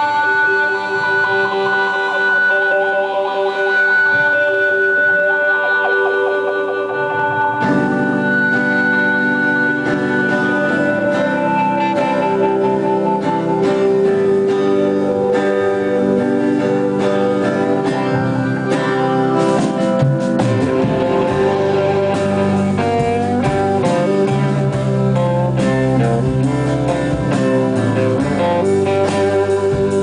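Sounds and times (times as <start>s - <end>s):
guitar: 0.0s - 30.0s
live band playing: 0.0s - 30.0s.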